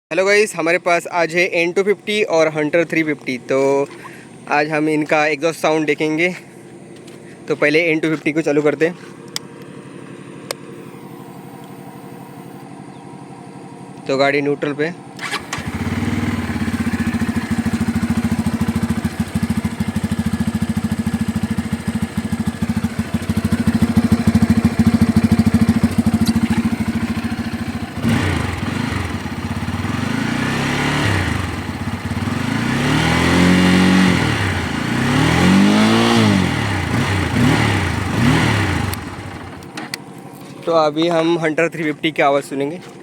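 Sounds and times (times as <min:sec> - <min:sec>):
motorcycle engine idling and revving: 0:01.9 - 0:41.7.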